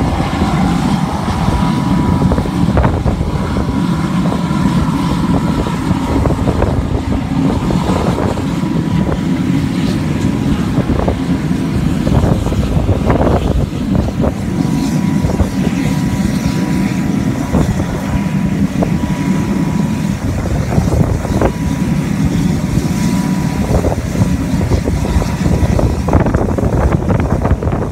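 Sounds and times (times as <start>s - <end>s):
thin steady whine: 0.0s - 27.9s.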